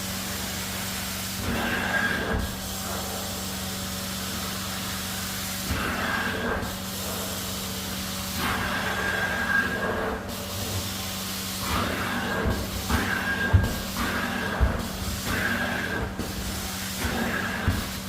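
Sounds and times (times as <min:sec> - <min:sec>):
carpet cleaning machine humming: 0:00.0 - 0:18.0.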